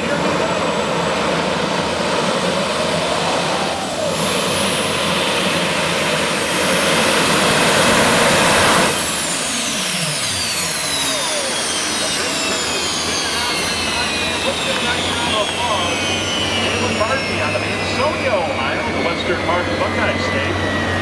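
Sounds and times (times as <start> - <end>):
tractor engine at full power: 0.0 - 21.0.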